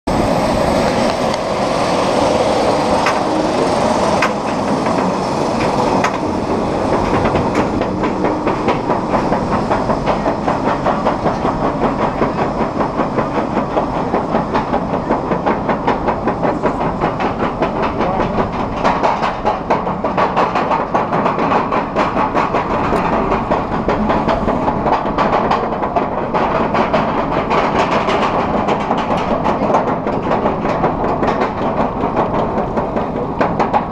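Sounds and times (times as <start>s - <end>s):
lift chain clacking: 2.7s - 33.9s.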